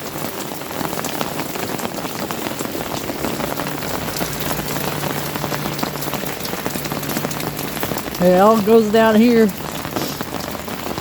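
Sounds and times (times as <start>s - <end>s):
steady rain patter: 0.0s - 11.0s.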